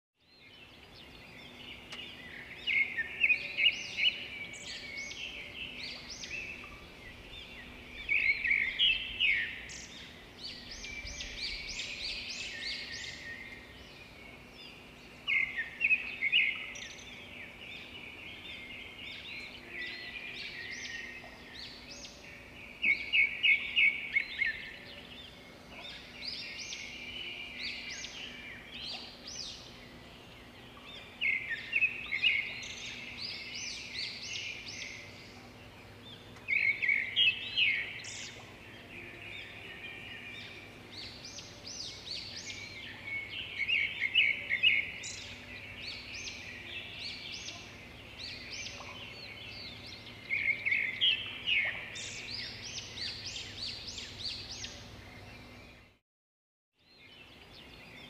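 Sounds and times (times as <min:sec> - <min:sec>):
birds singing and chirping: 0:00.2 - 0:56.0, 0:56.8 - 0:58.0.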